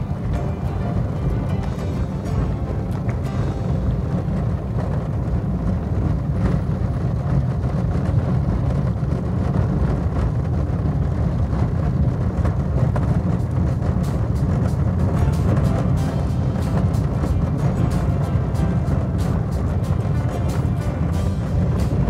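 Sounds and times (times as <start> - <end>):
car tyres rumbling on cobblestones: 0.0 - 22.0.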